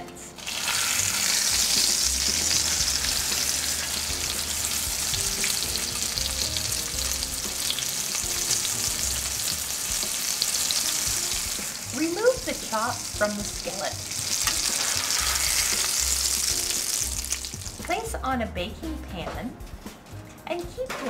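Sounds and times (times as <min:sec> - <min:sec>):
meat sizzling in a skillet: 0:00.4 - 0:17.8.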